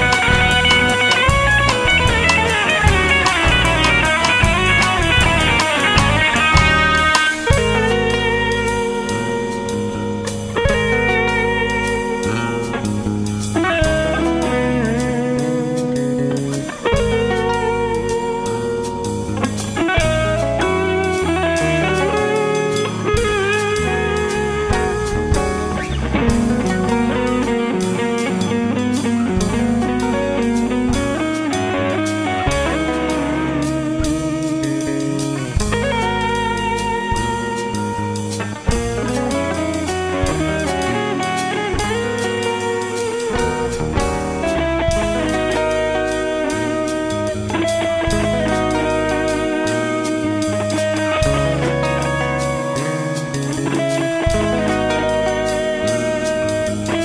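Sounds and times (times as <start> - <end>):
guitar-led music with bass and drums: 0.0 - 57.0.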